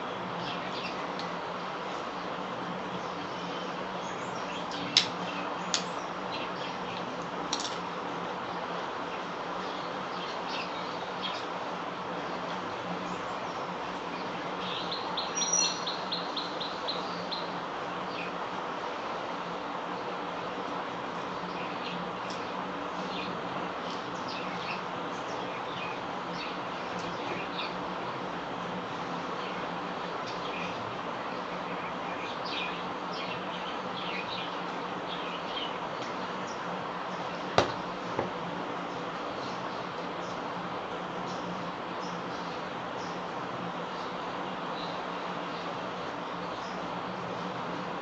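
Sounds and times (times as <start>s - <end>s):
small birds chirping: 0.0s - 47.5s
steady hiss and faint hum: 0.0s - 48.0s.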